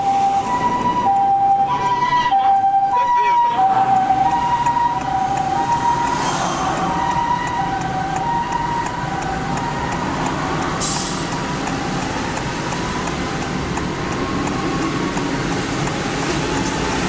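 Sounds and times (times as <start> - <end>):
ambulance two-tone siren: 0.0 - 17.0
traffic noise: 0.0 - 17.0.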